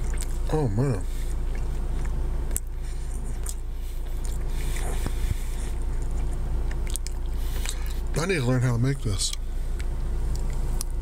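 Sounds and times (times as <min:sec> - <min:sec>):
person chewing: 0:00.0 - 0:08.1, 0:09.3 - 0:11.0
low hum inside car: 0:00.0 - 0:11.0.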